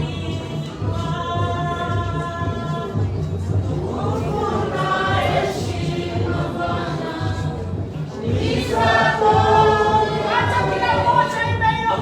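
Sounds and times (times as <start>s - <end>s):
congregation singing gospel song: 0.0s - 12.0s
steady beat: 0.0s - 12.0s.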